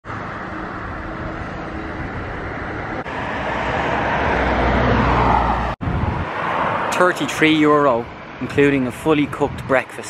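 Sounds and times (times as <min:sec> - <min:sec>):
car passing close by: 0:00.1 - 0:08.4.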